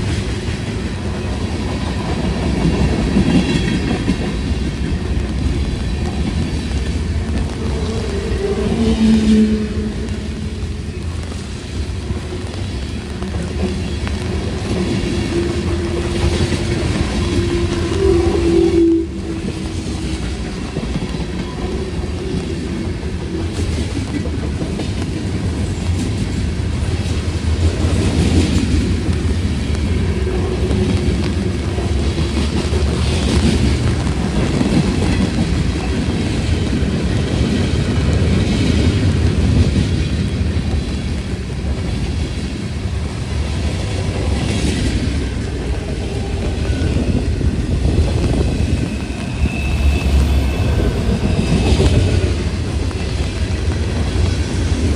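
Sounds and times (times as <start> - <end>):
train wheels clacking: 0.0 - 54.9
train wheels rumbling on rails: 0.0 - 54.9.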